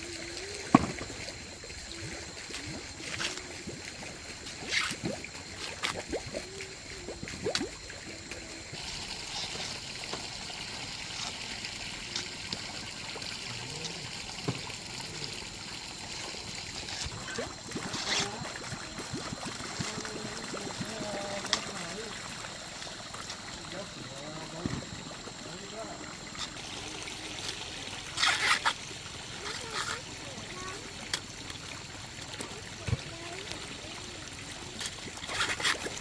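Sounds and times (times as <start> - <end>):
water trickling: 0.0 - 36.0.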